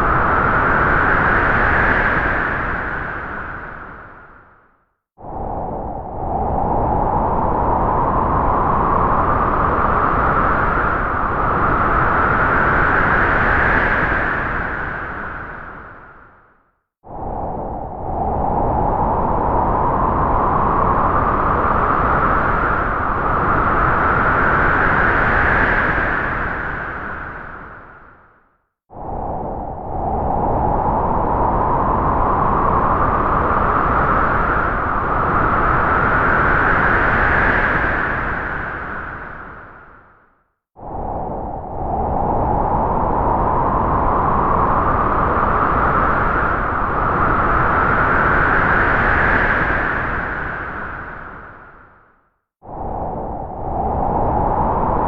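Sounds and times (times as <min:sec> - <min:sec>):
strong gust of wind: 0:05.2 - 0:16.2, 0:17.1 - 0:28.1, 0:28.9 - 0:40.1, 0:40.8 - 0:52.0, 0:52.6 - 0:55.0.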